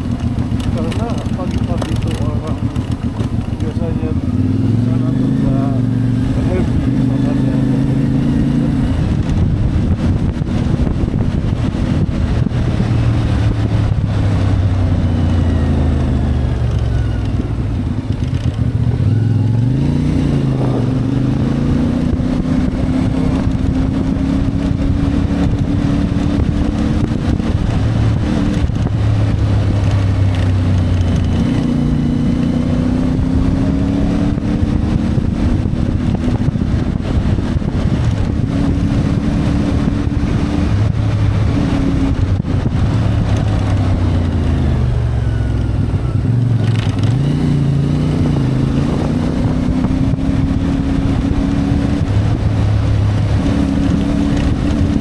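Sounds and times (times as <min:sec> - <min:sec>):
motorcycle engine running: 0:00.0 - 0:55.0
road noise: 0:00.0 - 0:55.0
wind noise: 0:00.0 - 0:55.0.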